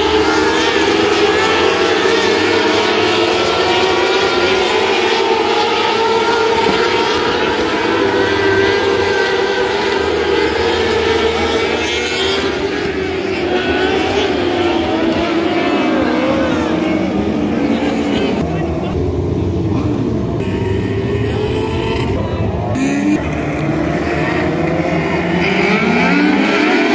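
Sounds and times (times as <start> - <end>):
racing car engines revving: 0.0 - 26.9.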